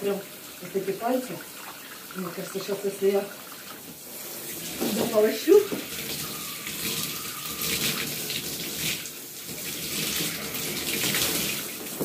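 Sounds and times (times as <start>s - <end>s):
faucet water splashing: 0.0s - 12.0s.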